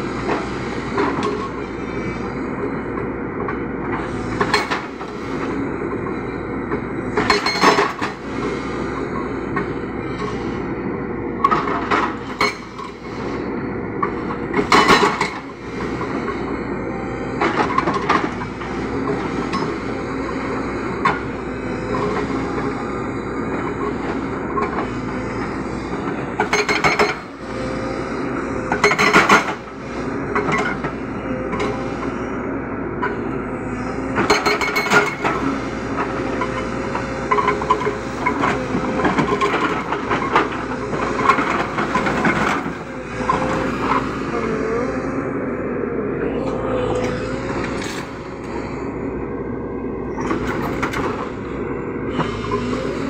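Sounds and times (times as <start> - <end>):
excavator engine drone: 0.0 - 53.0
hydraulic breaker pounding rock: 3.4 - 10.6, 11.4 - 32.2, 33.0 - 45.1, 50.1 - 51.5, 52.1 - 53.0.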